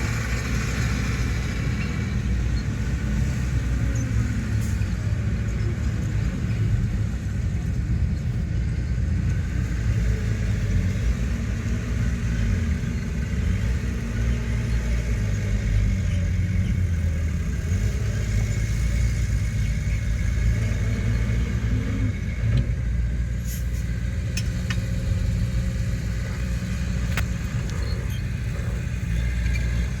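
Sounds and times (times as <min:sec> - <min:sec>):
diesel earthmoving machinery running: 0:00.0 - 0:30.0.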